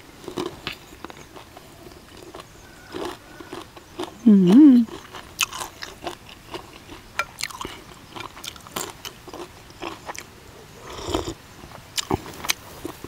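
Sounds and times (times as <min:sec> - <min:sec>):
man chewing crispy food: 0:00.2 - 0:13.0.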